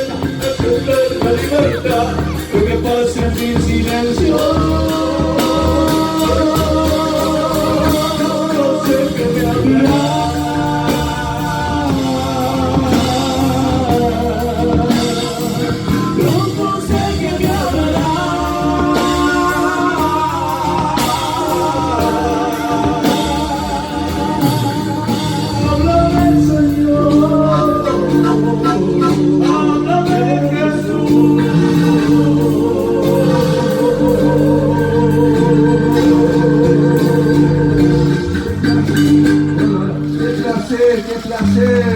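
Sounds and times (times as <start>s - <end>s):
folk group playing slow song: 0.0s - 41.9s.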